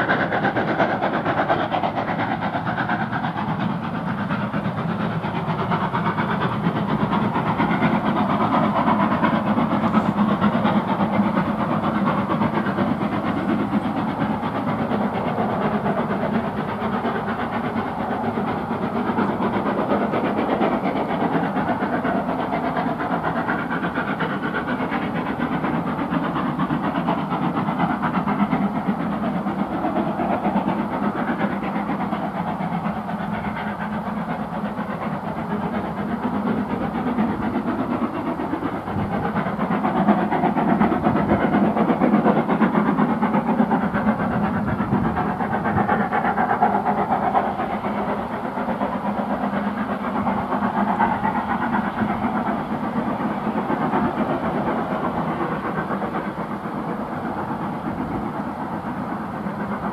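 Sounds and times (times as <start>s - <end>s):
coaches rolling on rails: 0.0s - 59.9s
steam locomotive exhaust: 0.0s - 59.9s.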